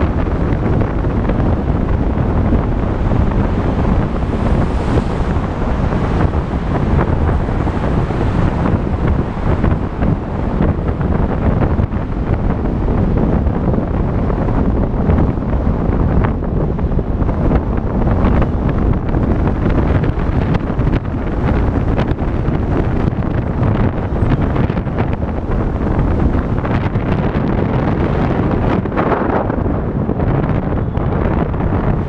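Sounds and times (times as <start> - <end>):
car road and tyre noise: 0.0 - 32.0
wind buffeting microphone: 0.0 - 32.0.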